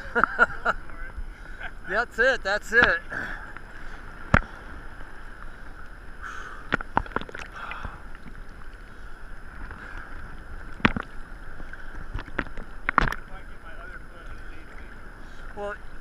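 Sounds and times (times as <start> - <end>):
sea water sloshing and lapping: 2.8 - 16.0.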